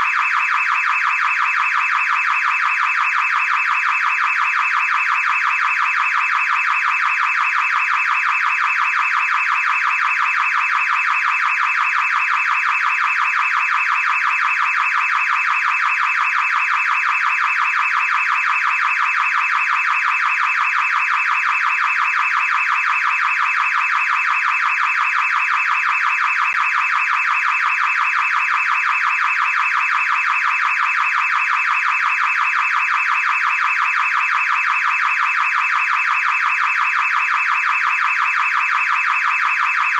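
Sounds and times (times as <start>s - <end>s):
car alarm pulsing tone: 0.0s - 39.9s.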